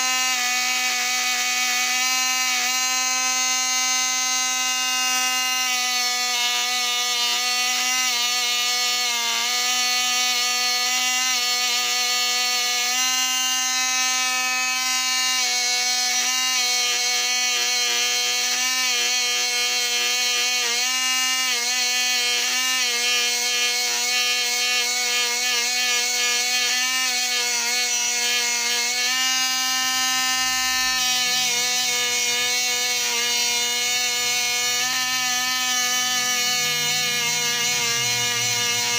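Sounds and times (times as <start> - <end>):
rotary tool whining at high speed: 0.0 - 38.9.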